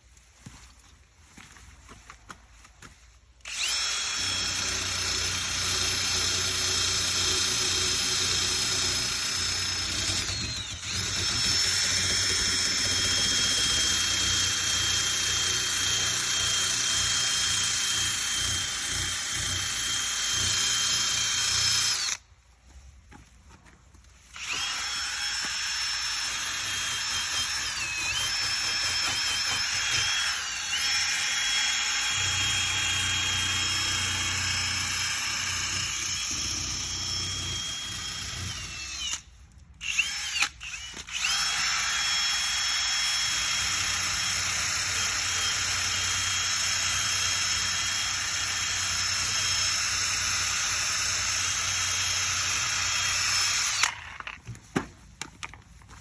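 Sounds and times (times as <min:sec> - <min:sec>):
drill sanding metal whine: 0:03.5 - 0:22.2, 0:24.4 - 0:39.2, 0:39.8 - 0:54.0.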